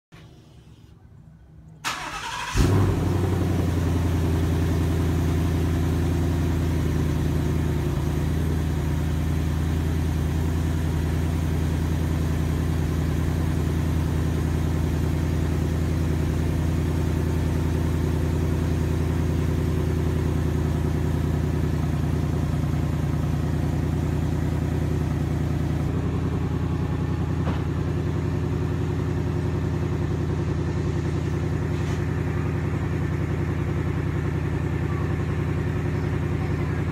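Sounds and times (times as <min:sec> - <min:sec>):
car engine idling: 0:00.2 - 0:36.9.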